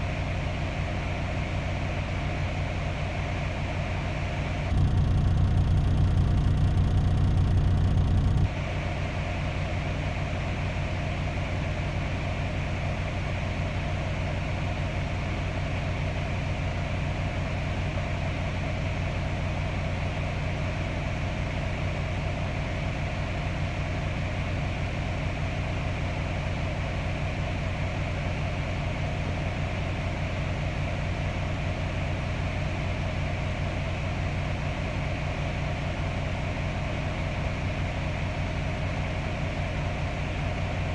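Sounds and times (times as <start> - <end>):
vehicle engine idling: 0.4 - 40.9.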